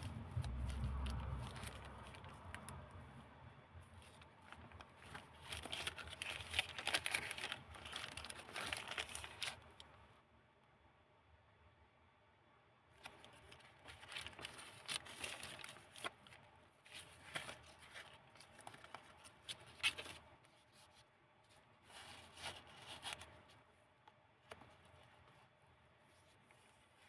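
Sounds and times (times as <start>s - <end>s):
paper pages rustling: 0.0s - 3.0s, 3.8s - 9.9s, 13.0s - 27.0s.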